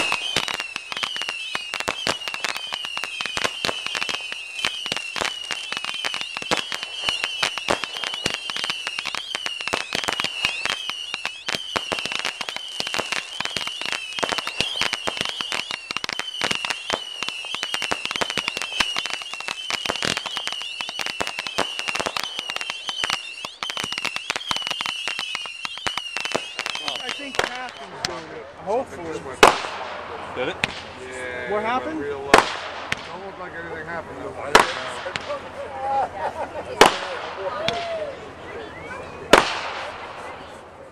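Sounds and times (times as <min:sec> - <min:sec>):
fireworks crackling: 0:00.0 - 0:40.9.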